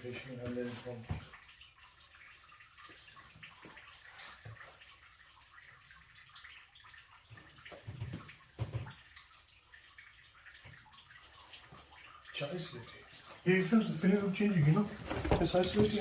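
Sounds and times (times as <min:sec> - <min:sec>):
water trickling from pipes: 0:00.0 - 0:16.0.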